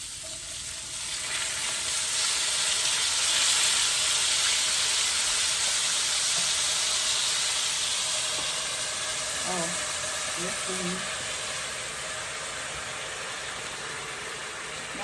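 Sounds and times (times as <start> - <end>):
potatoes sizzling in hot fat: 0.0 - 15.0.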